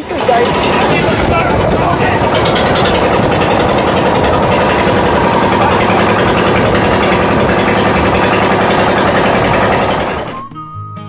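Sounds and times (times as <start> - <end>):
boat engine running: 0.0 - 10.5.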